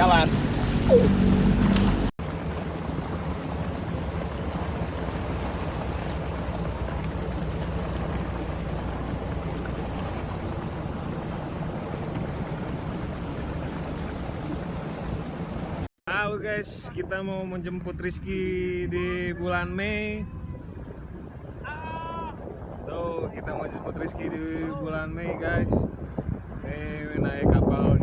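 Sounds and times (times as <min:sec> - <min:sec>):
water rushing: 0:00.0 - 0:27.2
motorboat engine hum: 0:00.0 - 0:27.3.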